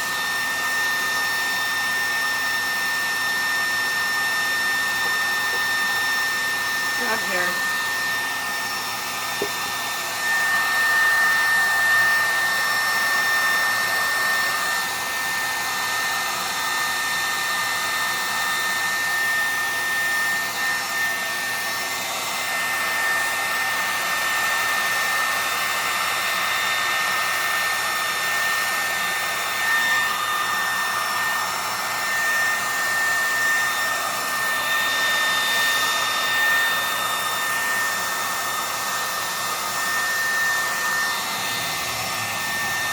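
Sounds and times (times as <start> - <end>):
hair dryer blowing: 0.0 - 42.9.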